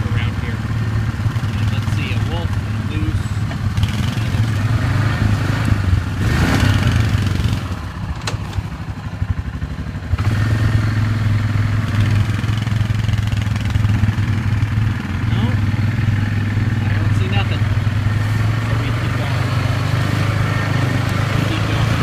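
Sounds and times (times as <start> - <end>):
atv engine droning: 0.0 - 22.0.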